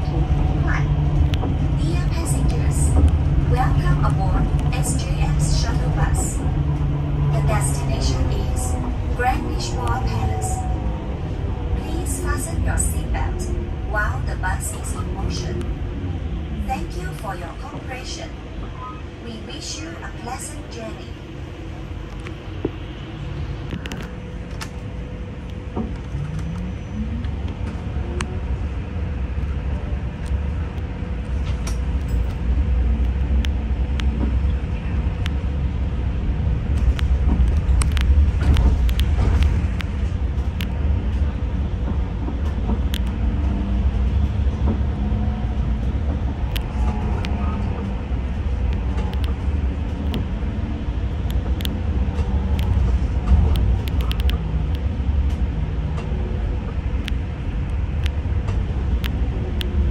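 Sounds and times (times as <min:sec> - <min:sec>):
bus engine and tyre rumble: 0:00.0 - 0:59.9.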